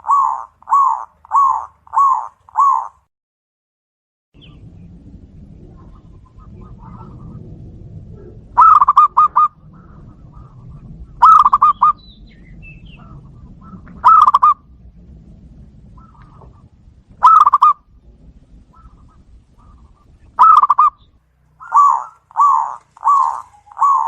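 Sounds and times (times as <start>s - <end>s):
dove cooing: 0.0s - 3.0s, 5.5s - 14.8s, 15.8s - 17.9s, 18.5s - 24.0s.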